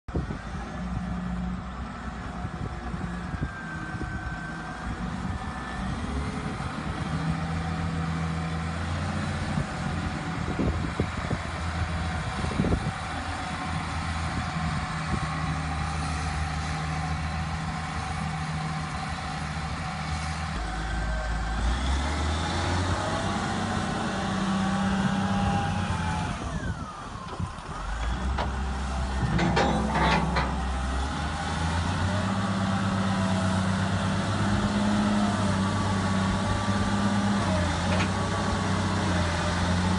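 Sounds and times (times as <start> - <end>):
loader diesel engine running: 0.2 - 39.9.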